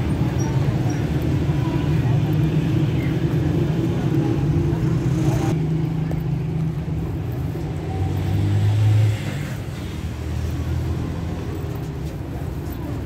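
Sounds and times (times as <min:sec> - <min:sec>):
busy street noise: 0:00.0 - 0:13.0
vehicle engine rumbling: 0:00.0 - 0:13.0.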